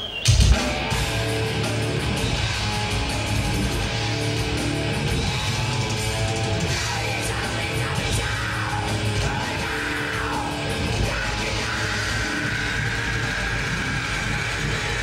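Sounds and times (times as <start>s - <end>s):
death metal band playing live: 0.0s - 15.0s.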